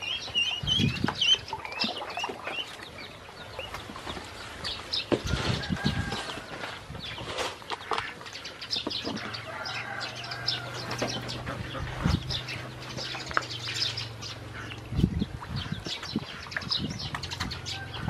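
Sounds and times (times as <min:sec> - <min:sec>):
water splashing: 0:00.0 - 0:06.5, 0:07.4 - 0:18.0
ducklings peeping: 0:00.0 - 0:18.0.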